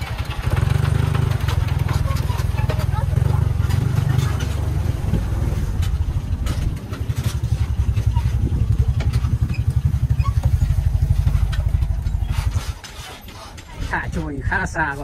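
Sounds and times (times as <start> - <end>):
diesel engine chugging: 0.0 - 14.1.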